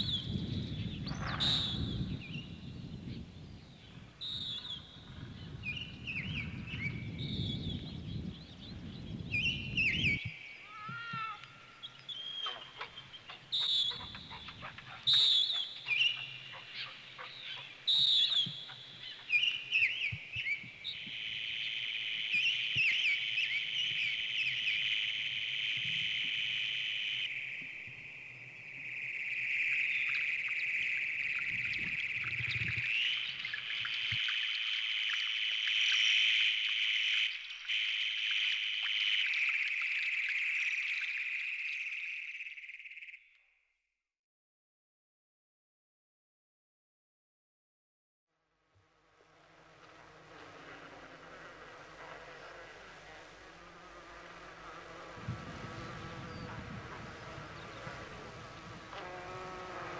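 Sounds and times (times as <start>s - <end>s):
songbirds singing: 0.0s - 43.5s, 51.1s - 59.9s.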